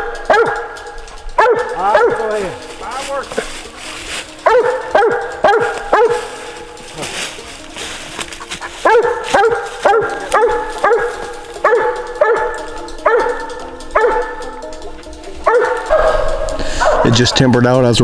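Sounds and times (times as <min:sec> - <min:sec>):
hound barking: 0:00.0 - 0:17.6.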